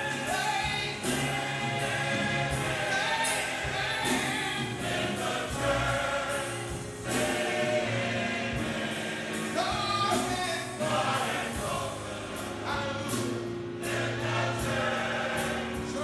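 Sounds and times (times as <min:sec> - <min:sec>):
gospel choir singing: 0:00.0 - 0:16.0
sharp percussive strokes: 0:00.0 - 0:16.0.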